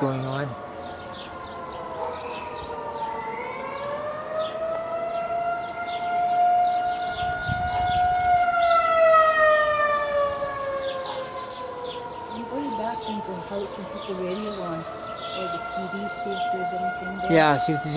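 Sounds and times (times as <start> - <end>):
birds chirping faintly: 0.0 - 17.9
tornado warning siren wailing: 0.0 - 17.9.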